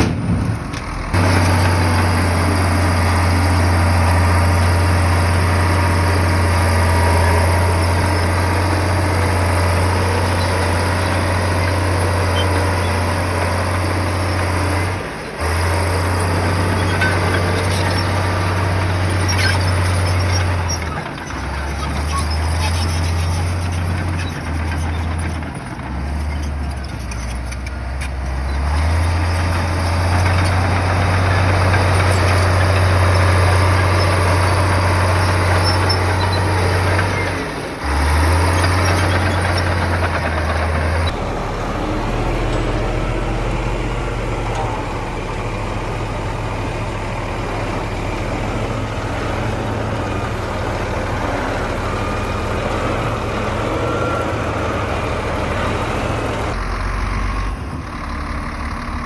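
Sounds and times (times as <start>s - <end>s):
heavy diesel machines droning: 0.0s - 59.0s.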